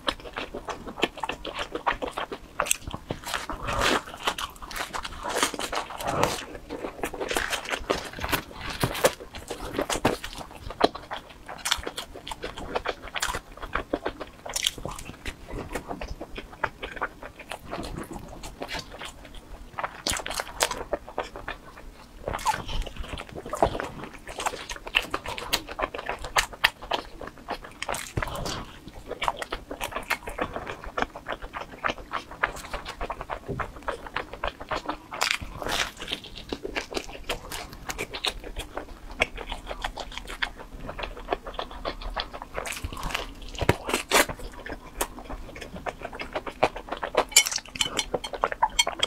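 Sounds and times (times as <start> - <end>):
chewing and biting pizza: 0.0 - 49.0.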